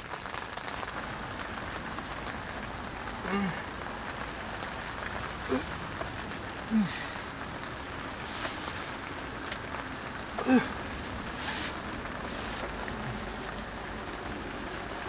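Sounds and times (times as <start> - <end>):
heavy rain on a shelter: 0.0 - 15.0.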